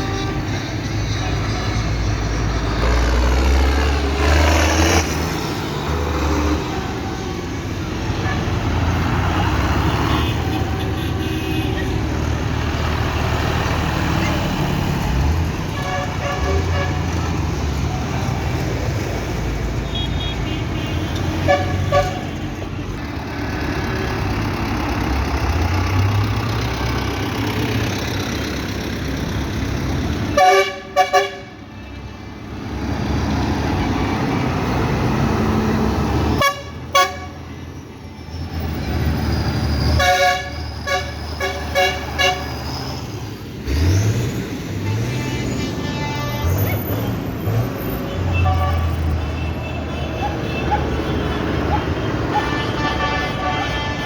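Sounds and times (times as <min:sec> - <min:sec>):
horns tooting: 0:00.0 - 0:18.6, 0:19.3 - 0:26.9, 0:30.1 - 0:32.6, 0:33.5 - 0:43.1, 0:43.7 - 0:54.0
tractor engines running: 0:00.0 - 0:54.0.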